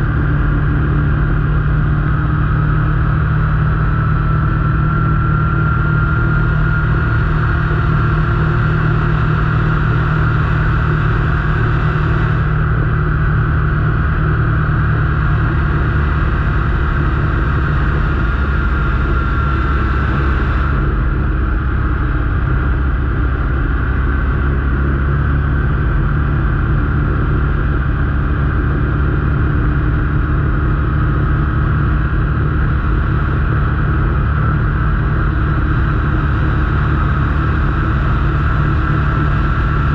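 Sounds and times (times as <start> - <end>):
vehicle engine drone: 0.0 - 39.9.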